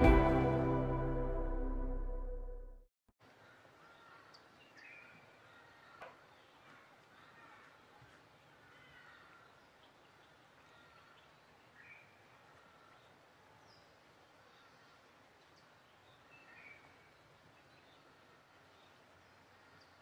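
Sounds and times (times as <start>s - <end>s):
faint rural ambience: 3.2s - 20.0s.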